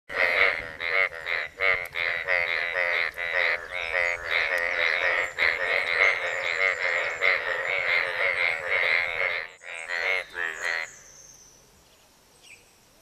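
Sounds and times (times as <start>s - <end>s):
chorus of frogs croaking: 0.1s - 11.1s.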